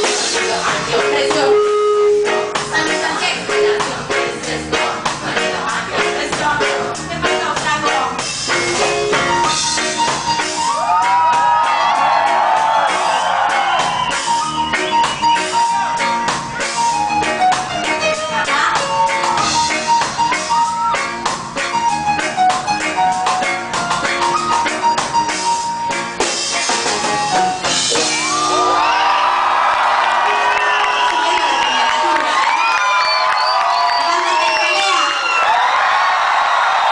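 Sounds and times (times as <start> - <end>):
live reggae band playing: 0.0 - 36.9.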